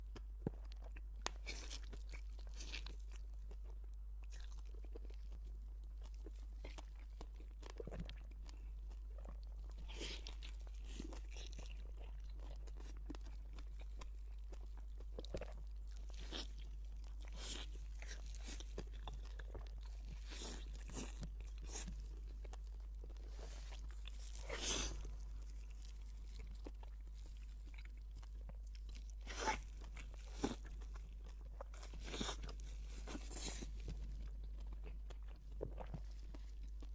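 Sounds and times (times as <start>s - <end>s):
person chewing crunchy food: 0.0s - 36.9s.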